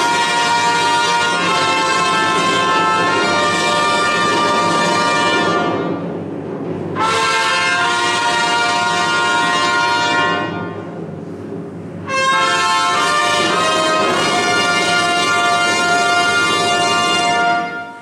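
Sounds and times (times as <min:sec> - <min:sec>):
brass fanfare chords: 0:00.0 - 0:06.1, 0:07.0 - 0:11.0, 0:12.0 - 0:18.0.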